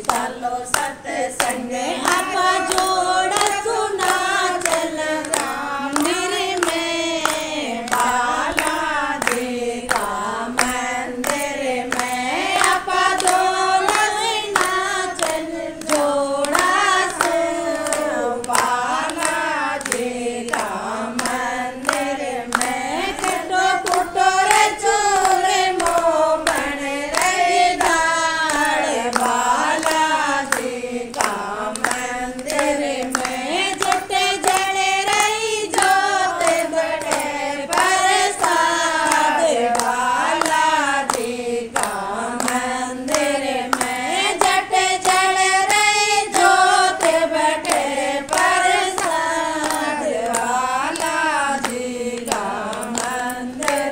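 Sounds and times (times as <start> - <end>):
devotional song singing: 0.0 - 53.9
steady handclaps: 0.0 - 53.9.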